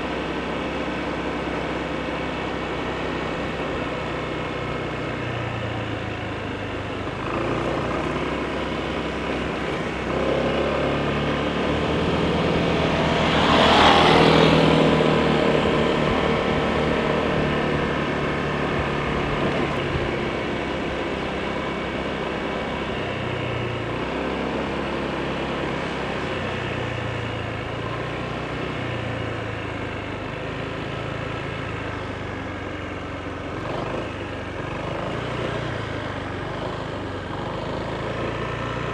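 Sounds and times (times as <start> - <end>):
scooter engine running: 0.0 - 38.9
wind and road noise: 0.0 - 38.9.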